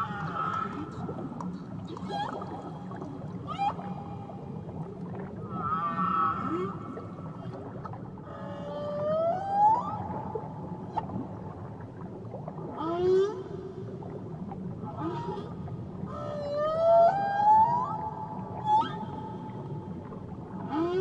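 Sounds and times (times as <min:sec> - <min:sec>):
low hum of sea noise: 0:00.0 - 0:21.0.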